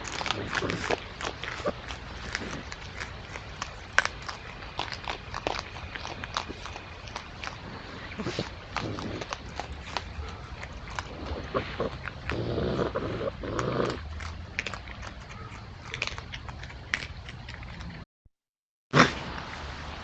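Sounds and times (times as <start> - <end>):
harsh dense animal noise: 0.0 - 16.6.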